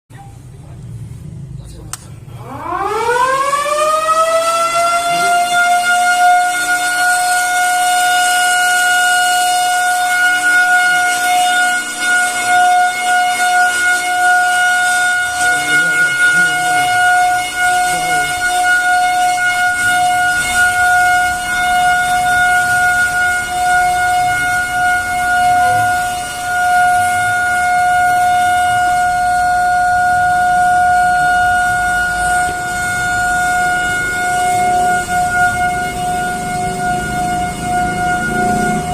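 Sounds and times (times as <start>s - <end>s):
siren winding up and wailing: 2.4s - 38.9s.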